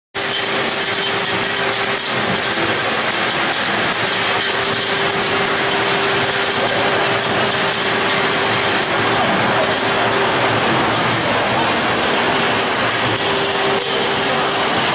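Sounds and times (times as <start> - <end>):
loud machine noise with hum: 0.2 - 14.9.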